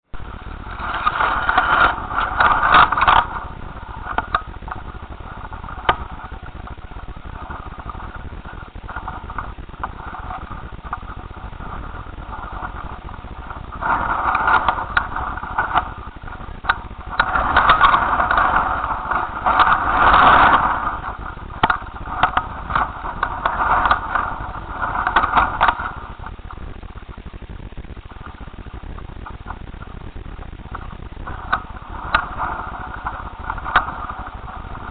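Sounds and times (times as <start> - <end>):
strong wind buffeting microphone: 0.0 - 34.9
rattling in gusts: 0.1 - 34.9.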